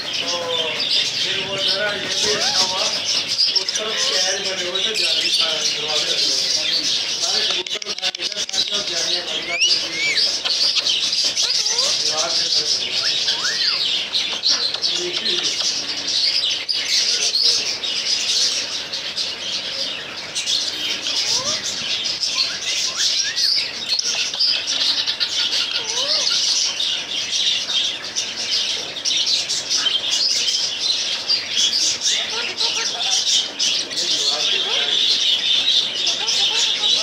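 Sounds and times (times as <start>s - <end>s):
small birds chirping and chattering: 0.0s - 37.0s.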